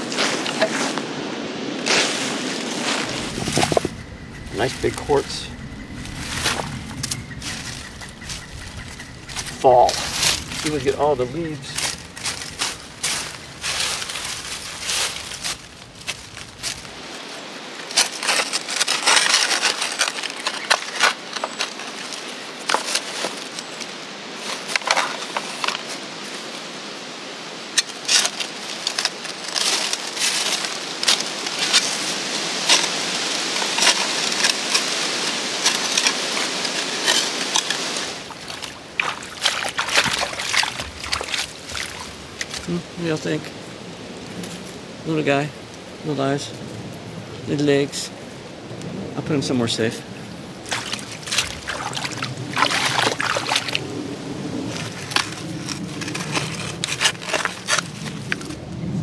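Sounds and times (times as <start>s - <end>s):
dry leaves rustling: 0.0s - 49.1s, 49.8s - 59.0s
steady background hiss: 0.0s - 59.0s.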